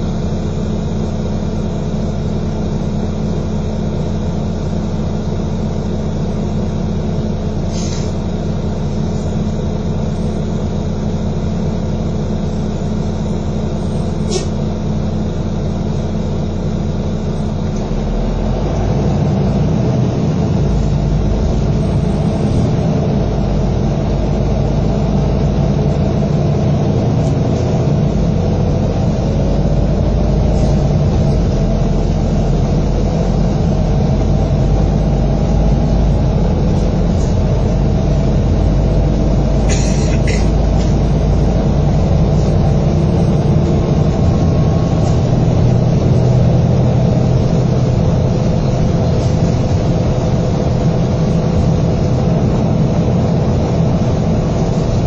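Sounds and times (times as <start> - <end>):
bus engine droning: 0.0 - 55.0.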